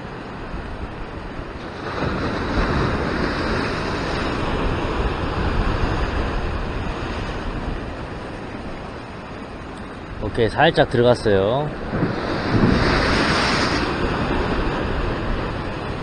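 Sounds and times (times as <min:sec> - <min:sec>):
surf washing over rocks: 0:00.0 - 0:16.0.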